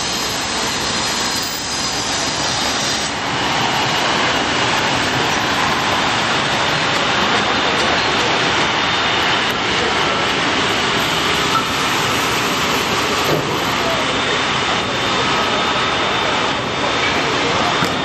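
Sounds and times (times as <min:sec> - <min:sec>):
city street traffic roar: 0:00.0 - 0:18.0.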